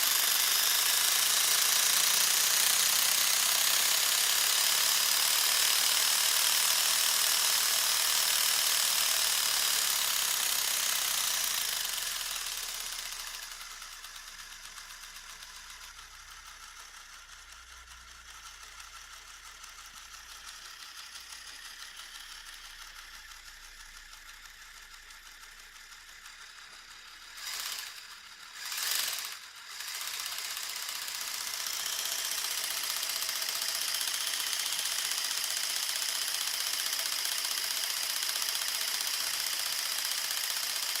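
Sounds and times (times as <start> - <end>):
toy engine clattering rattle: 0.0 - 41.0.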